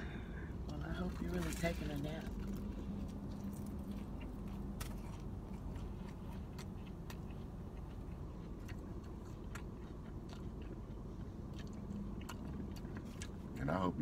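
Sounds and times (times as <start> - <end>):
steady low hum: 0.0 - 14.0
chewing clicks and crackles: 1.0 - 13.9.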